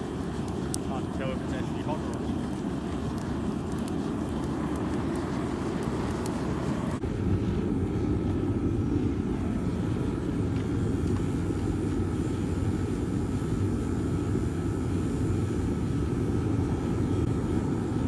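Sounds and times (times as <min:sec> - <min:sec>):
burner low rushing noise: 0:00.0 - 0:18.0
faint steady whine: 0:00.0 - 0:18.0.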